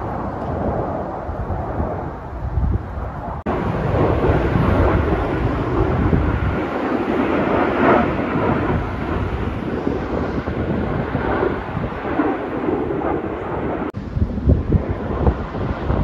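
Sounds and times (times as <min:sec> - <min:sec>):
jet aircraft roar: 0:00.0 - 0:16.0
wind buffeting microphone: 0:00.0 - 0:16.0.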